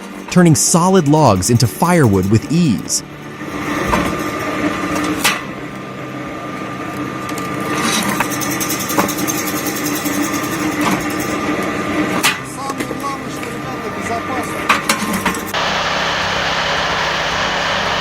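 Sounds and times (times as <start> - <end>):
motor and gearbox hum: 0.0 - 18.0.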